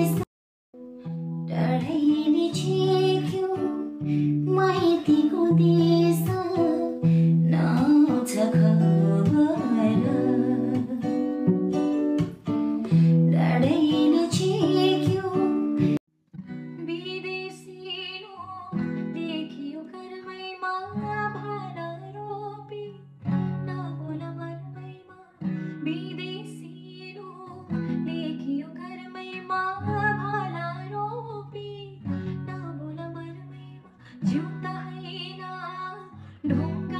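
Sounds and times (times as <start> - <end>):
plucked acoustic guitar: 0.8 - 16.8, 23.2 - 36.9.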